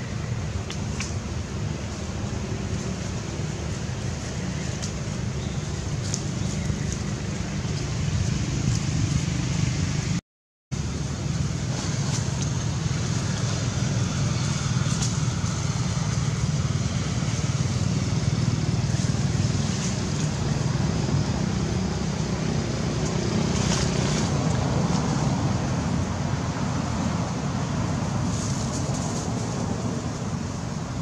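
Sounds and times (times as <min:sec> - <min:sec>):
low rumbling background noise: 0:00.0 - 0:10.2, 0:10.8 - 0:31.0.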